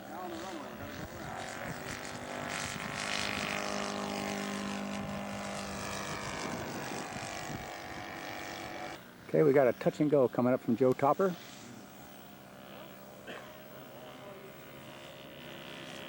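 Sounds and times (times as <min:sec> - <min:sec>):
model airplane engine buzzing: 0:00.0 - 0:16.0.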